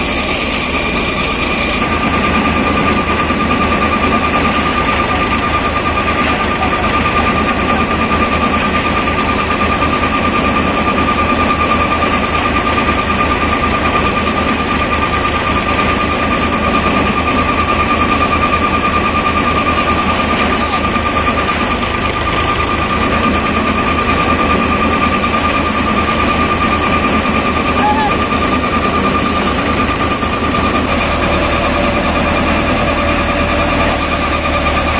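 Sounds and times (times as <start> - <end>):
diesel engine low beat: 0.0 - 34.9
thresher whining: 0.0 - 34.9.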